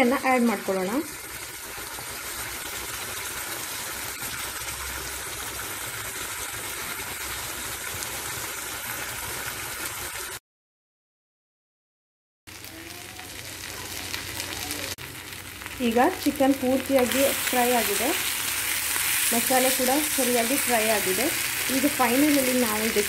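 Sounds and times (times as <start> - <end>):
food sizzling in a frying pan: 0.0 - 10.4, 12.5 - 23.0.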